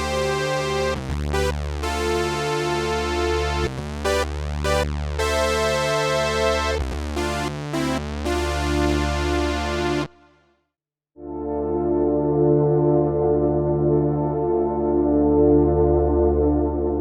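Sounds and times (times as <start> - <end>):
synthesizer chords and bass: 0.0 - 10.2, 11.2 - 17.0.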